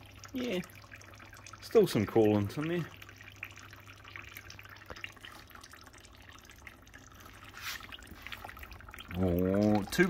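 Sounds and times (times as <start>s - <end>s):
coolant dripping and trickling: 0.0s - 10.0s.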